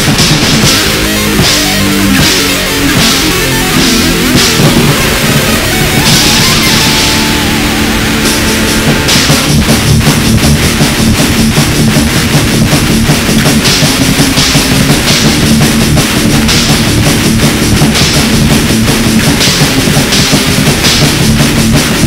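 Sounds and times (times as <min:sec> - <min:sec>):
fast drumming on drum kit: 0:00.0 - 0:22.0
metal band playing: 0:00.0 - 0:22.0
held guitar chord: 0:00.4 - 0:18.4.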